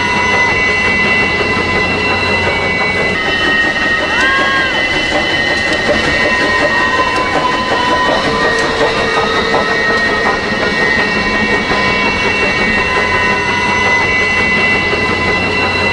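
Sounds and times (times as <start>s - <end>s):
steady high whine: 0.0s - 15.9s
train cars rumbling past: 0.0s - 15.9s.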